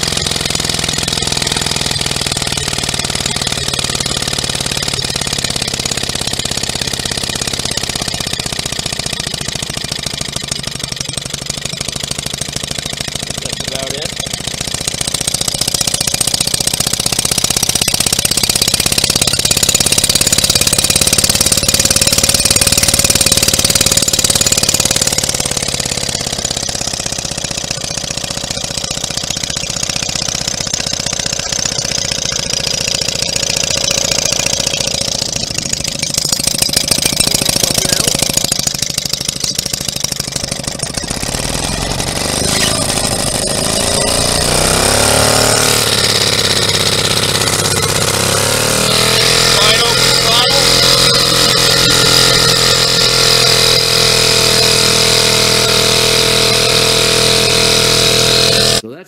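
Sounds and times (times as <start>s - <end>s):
two-stroke outboard motor running: 0.0s - 59.0s.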